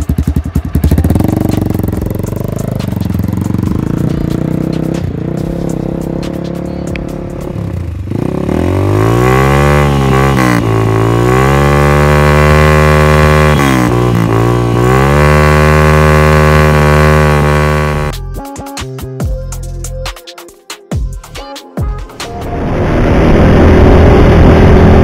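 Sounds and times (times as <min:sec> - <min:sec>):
motorcycle engine revving: 0:00.0 - 0:18.2, 0:22.3 - 0:25.0.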